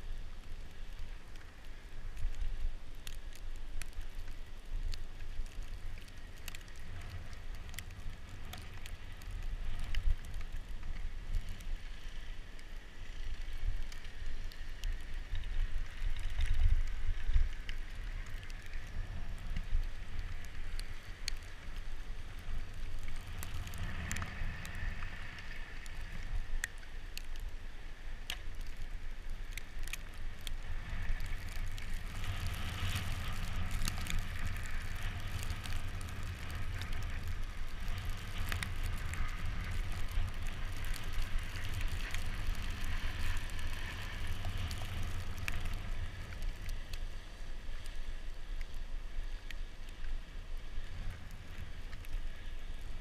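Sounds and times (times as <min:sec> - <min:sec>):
bicycle rumbling over snow: 0:00.0 - 0:53.0.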